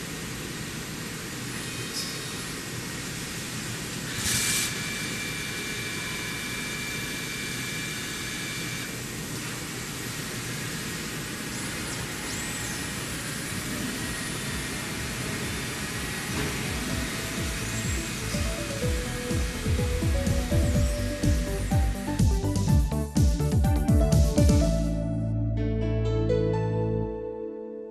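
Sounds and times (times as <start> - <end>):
thin high whine: 0.0 - 23.5
milling machine running: 0.0 - 24.7.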